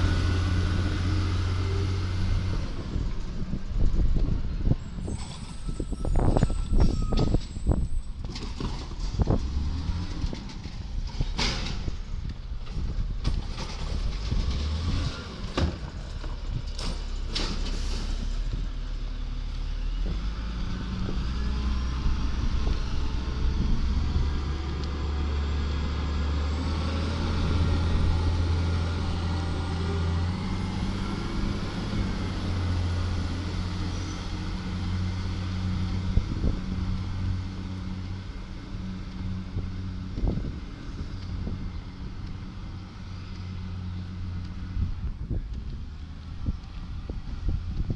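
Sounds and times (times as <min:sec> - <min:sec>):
garbage truck diesel engine: 0:00.0 - 0:47.9.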